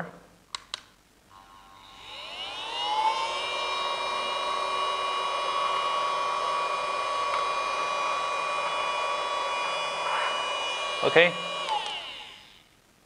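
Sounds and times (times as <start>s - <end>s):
handheld vacuum cleaner whine: 1.4s - 12.7s.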